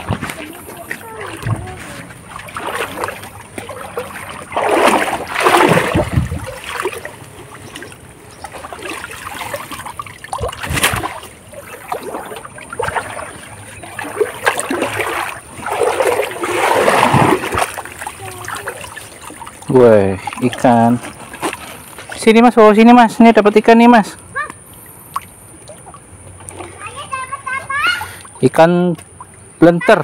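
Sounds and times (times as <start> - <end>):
river water splashing: 0.0 - 30.0.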